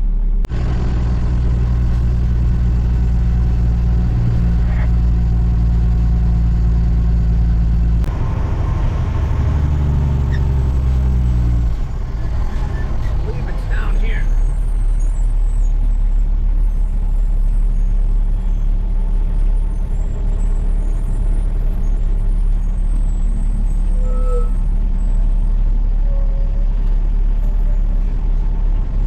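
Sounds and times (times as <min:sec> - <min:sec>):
dump truck diesel engine drone: 0:00.0 - 0:29.0.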